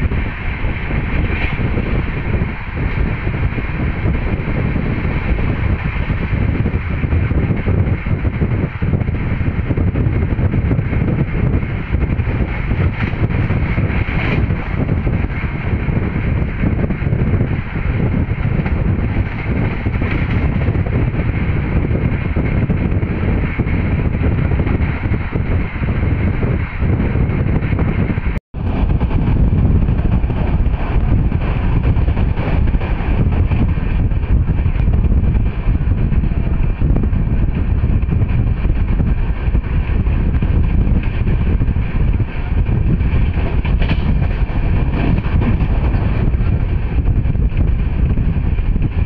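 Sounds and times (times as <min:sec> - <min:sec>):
train rumbling: 0:00.0 - 0:49.0
wind on microphone: 0:00.0 - 0:49.0.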